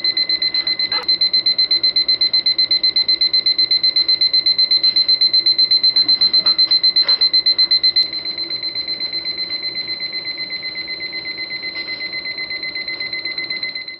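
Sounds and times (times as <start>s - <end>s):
alarm clock beeping: 0.0s - 13.9s.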